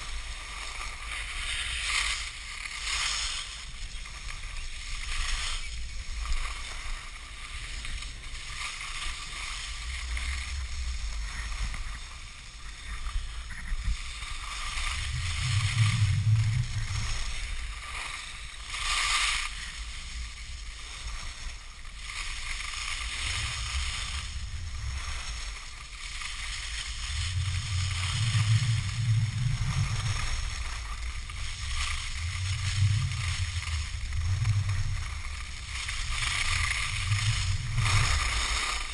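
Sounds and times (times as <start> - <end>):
skis scraping over snow: 0.0 - 38.9
wind buffeting camera: 0.0 - 38.9.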